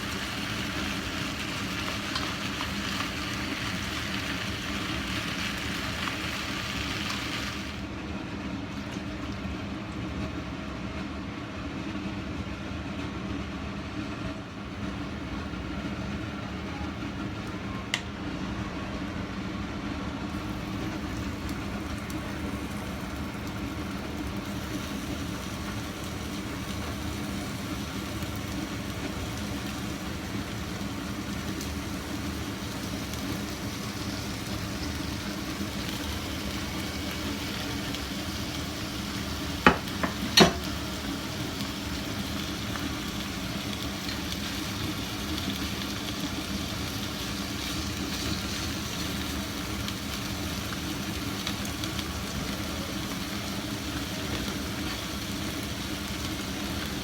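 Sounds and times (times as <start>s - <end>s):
frying hiss: 0.0s - 7.9s, 14.5s - 57.0s
low mechanical hum: 0.0s - 57.0s.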